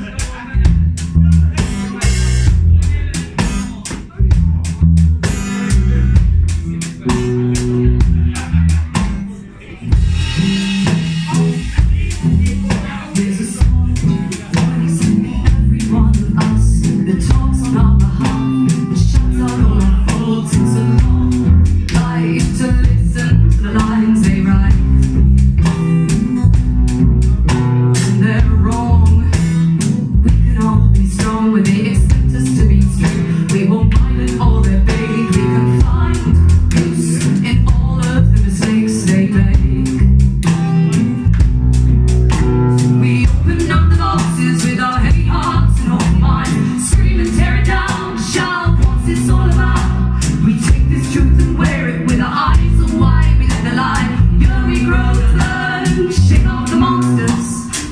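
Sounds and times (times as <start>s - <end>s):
person singing: 0.0s - 26.7s, 27.4s - 41.1s, 42.4s - 57.9s
band playing a song: 0.0s - 57.9s.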